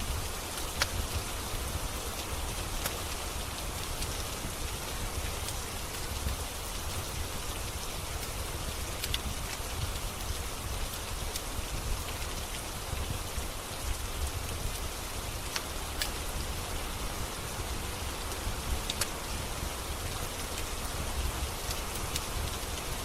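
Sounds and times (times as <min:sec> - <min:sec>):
steady rain: 0:00.0 - 0:23.0
wood fire crackling: 0:00.0 - 0:23.0.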